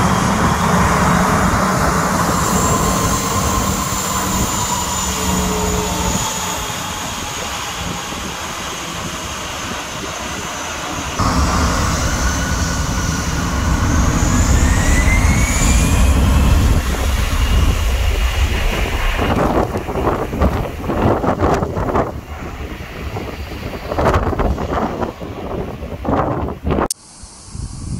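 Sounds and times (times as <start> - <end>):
jet engine low rumble: 0.0 - 27.9
jet engines whining: 0.0 - 27.9.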